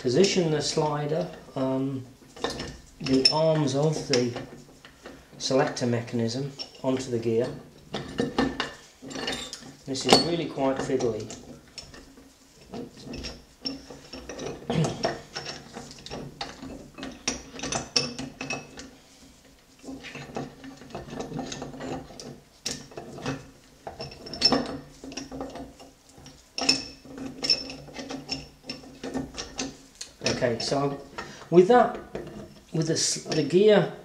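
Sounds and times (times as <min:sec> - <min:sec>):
gearbox parts clicking and clinking: 0:02.3 - 0:18.9, 0:19.8 - 0:33.6.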